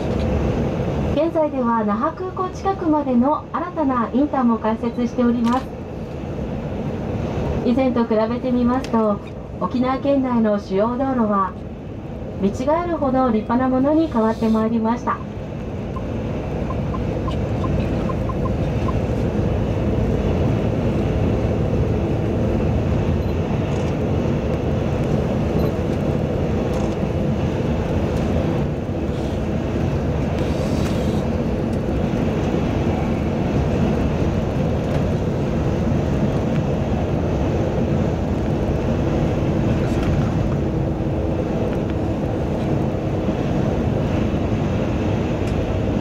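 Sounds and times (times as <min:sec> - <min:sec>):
bus engine and tyre noise: 0:00.0 - 0:46.0.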